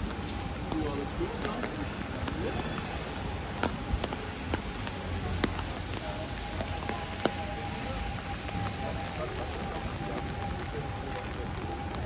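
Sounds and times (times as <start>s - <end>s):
close raindrops striking: 0.0s - 12.0s
heavy rain hissing: 0.1s - 12.0s.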